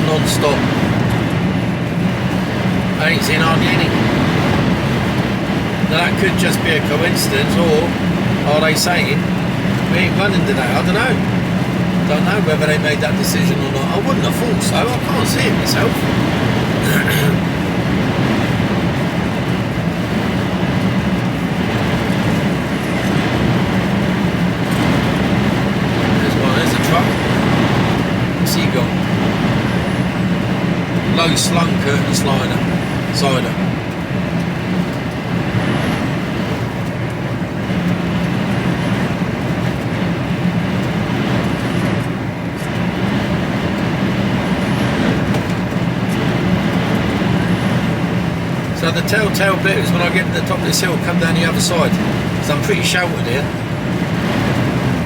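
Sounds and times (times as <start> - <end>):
lorry engine and road noise: 0.0 - 55.0.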